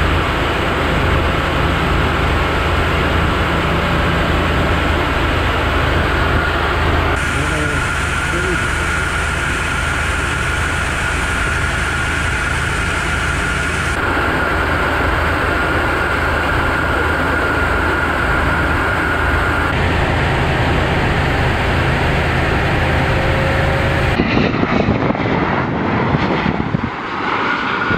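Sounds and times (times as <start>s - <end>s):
high whine: 0.0s - 27.9s
jet engine roar in cabin: 0.0s - 27.9s.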